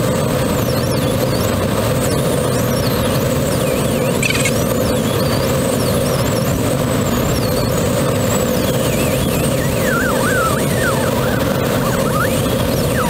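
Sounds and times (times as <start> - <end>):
thin wavering whistling tones: 0.6 - 13.0.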